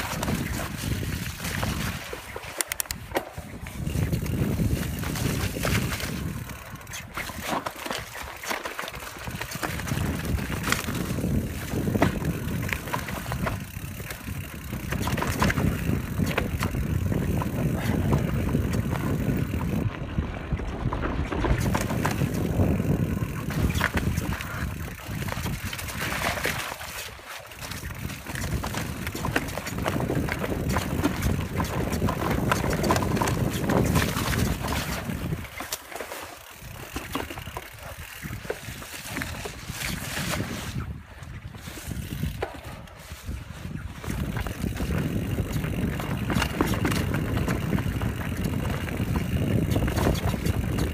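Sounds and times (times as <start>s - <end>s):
wind rushing on microphone: 0.0s - 8.2s, 9.2s - 26.9s, 27.6s - 35.7s, 36.6s - 50.9s
bike knocks and rattles: 0.0s - 40.8s, 41.6s - 50.9s
bike tyre noise on dirt: 0.0s - 50.9s.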